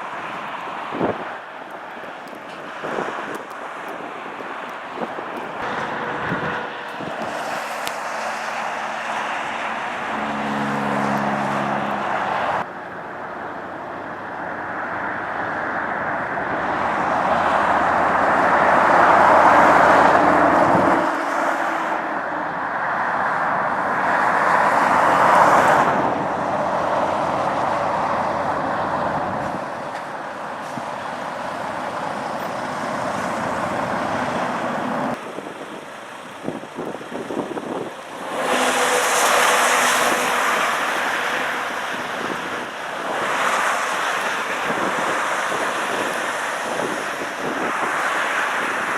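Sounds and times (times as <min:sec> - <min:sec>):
tyre noise on snowy road: 0:00.0 - 0:48.9.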